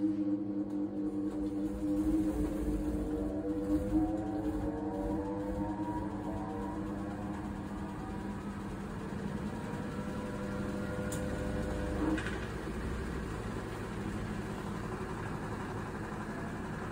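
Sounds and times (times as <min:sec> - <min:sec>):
washing machine motor whine: 0:00.0 - 0:16.9.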